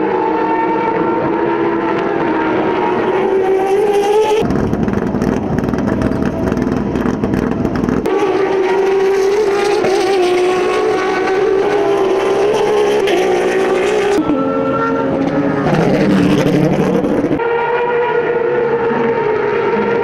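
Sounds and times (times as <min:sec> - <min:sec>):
race car engines at high revs: 0:00.0 - 0:20.0.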